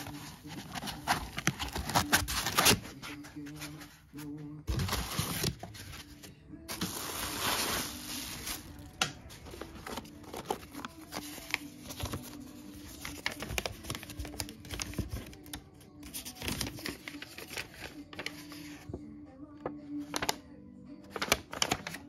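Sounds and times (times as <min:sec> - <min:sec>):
paper and plastic rustling: 0:00.0 - 0:19.0, 0:21.1 - 0:22.0.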